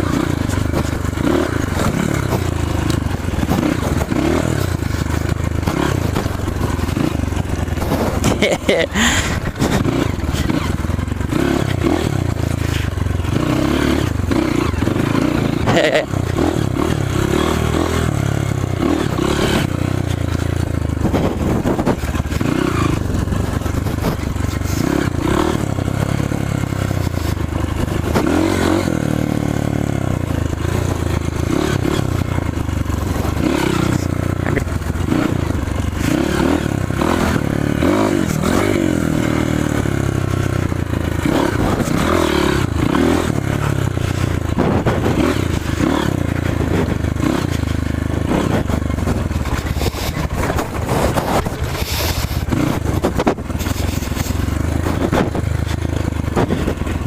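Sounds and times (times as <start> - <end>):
rattling and scraping: 0.0 - 16.9, 18.7 - 29.4, 30.2 - 36.8, 40.6 - 57.0
motorcycle engine revving: 0.0 - 57.0.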